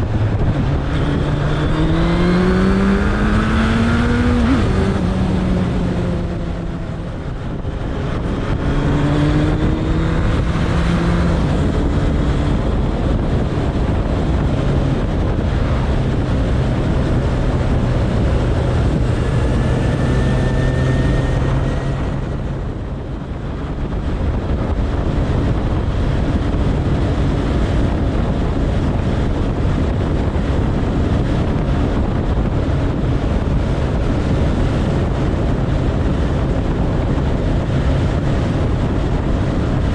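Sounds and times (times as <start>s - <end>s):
motorcycle engine at road speed: 0.0s - 39.9s
wind noise on microphone: 0.0s - 39.9s.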